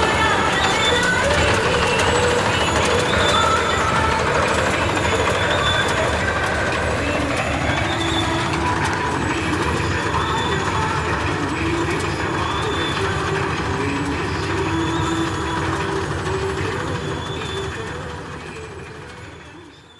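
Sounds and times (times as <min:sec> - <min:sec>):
faint whining tones: 0:00.0 - 0:19.9
tractor diesel engine: 0:00.0 - 0:19.9.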